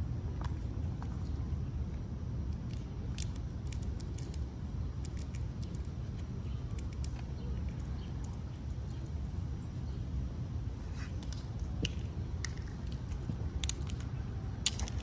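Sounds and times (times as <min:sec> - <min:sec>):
squirrel rustling in dry leaves: 0:00.0 - 0:15.0
steady low rumble: 0:00.0 - 0:15.0.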